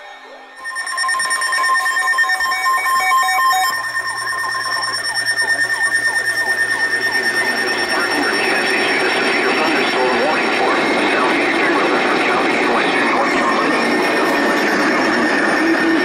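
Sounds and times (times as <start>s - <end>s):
falling electronic chirps: 0.1s - 16.0s
radio alarm beeps: 0.1s - 16.0s.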